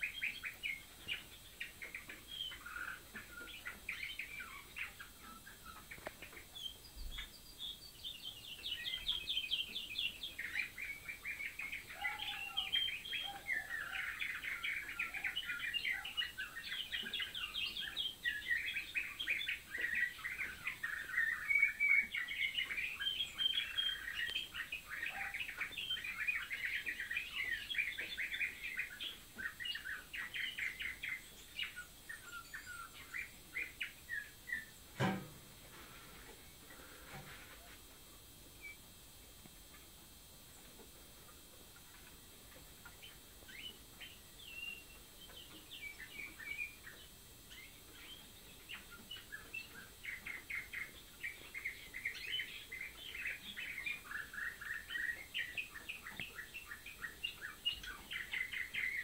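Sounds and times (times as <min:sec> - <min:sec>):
canary singing trills: 0:00.0 - 0:35.2, 0:39.6 - 0:59.0.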